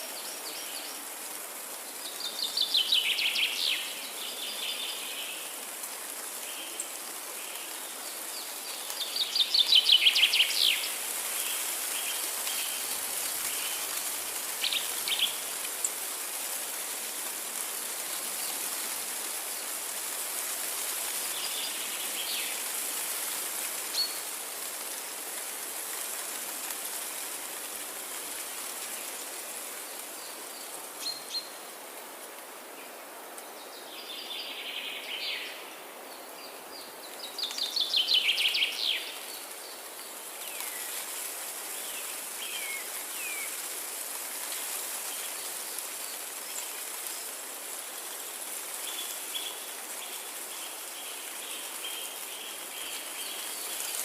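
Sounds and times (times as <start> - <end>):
forest ambience hiss: 0.0 - 54.0.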